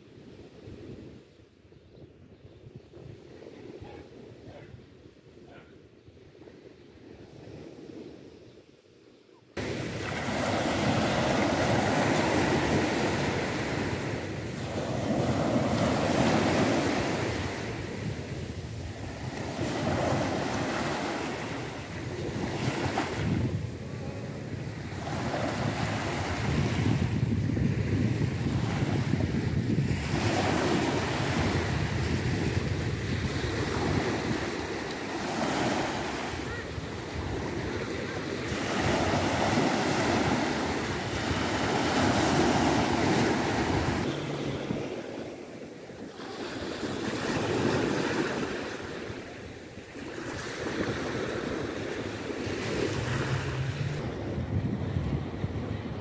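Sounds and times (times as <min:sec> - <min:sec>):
wind buffeting microphone: 0:09.6 - 0:46.1, 0:46.8 - 0:56.0
waves breaking on beach: 0:09.6 - 0:56.0.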